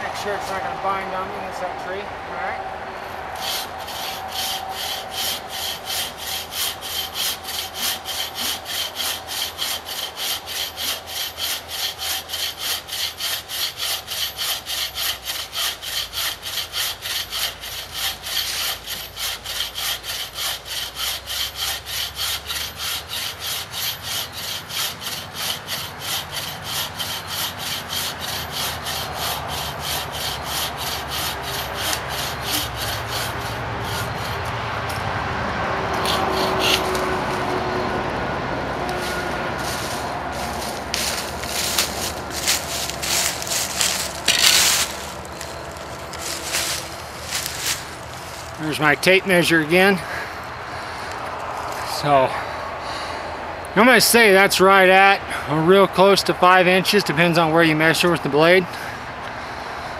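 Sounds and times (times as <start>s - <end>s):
saw cutting through log: 3.0s - 35.0s, 35.9s - 38.2s, 38.8s - 52.4s, 53.7s - 59.0s.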